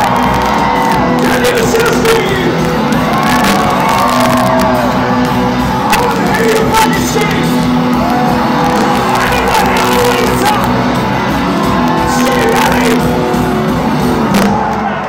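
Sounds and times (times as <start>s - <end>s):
crowd shouting and whooping: 0.0s - 15.0s
live rock band: 0.0s - 15.0s.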